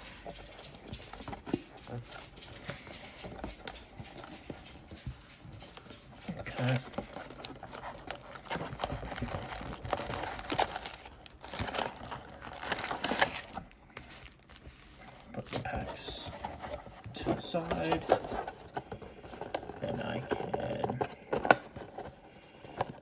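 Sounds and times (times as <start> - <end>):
foil packs crinkling and rustling: 0.0 - 23.0.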